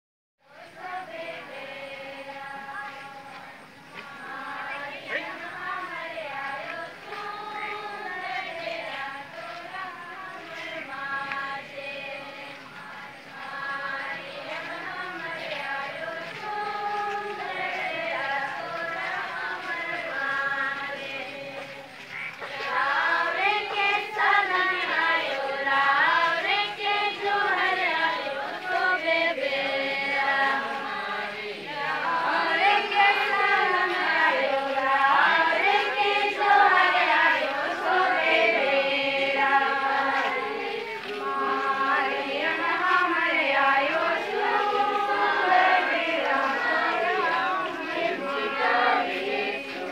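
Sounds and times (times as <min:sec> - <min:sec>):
crowd singing a hymn: 0:00.4 - 0:49.9.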